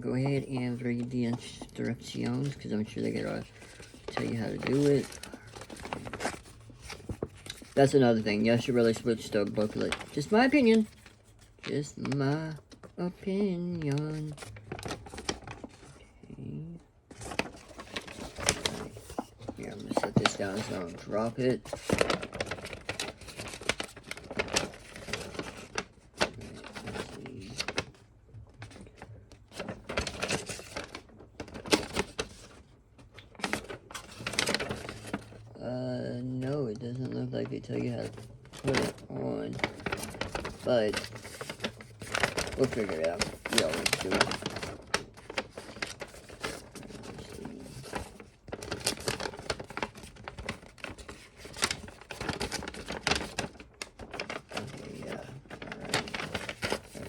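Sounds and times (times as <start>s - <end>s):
pages turning: 0.0s - 16.1s, 16.7s - 57.0s
paper rustling: 0.0s - 57.0s.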